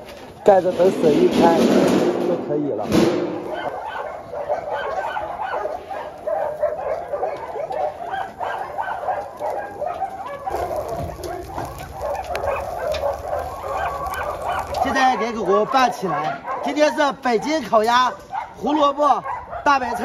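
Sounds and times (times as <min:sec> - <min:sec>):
many dogs barking and yelping: 0:02.7 - 0:20.0.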